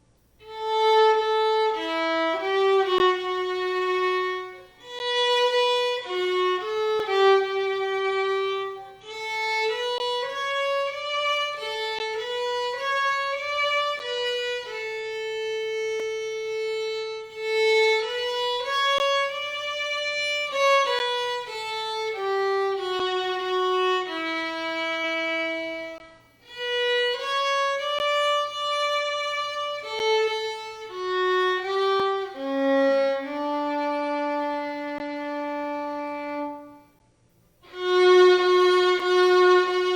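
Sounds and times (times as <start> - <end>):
solo violin slow melody: 0.3 - 39.9.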